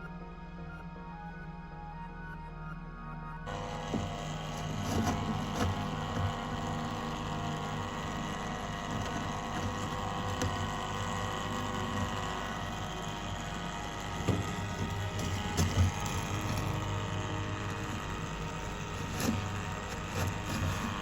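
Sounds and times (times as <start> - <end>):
clicks and rattles: 3.5 - 21.0
gravel vacuum motor hum: 3.5 - 21.0.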